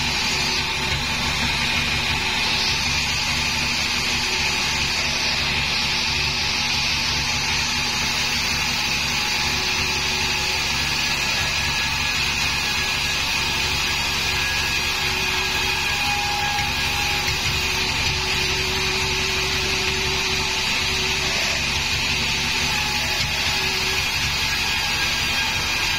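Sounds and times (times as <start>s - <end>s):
band saw cutting wood: 0.0s - 25.9s.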